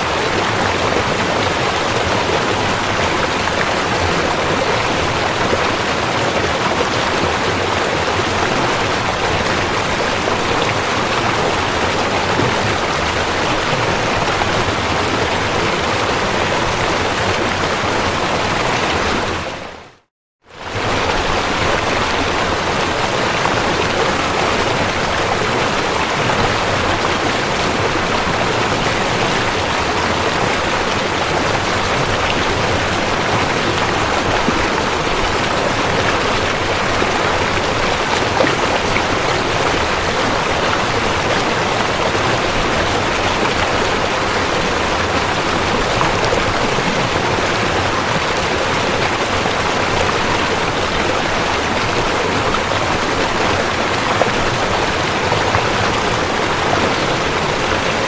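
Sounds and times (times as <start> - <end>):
rushing river: 0.0 - 58.0.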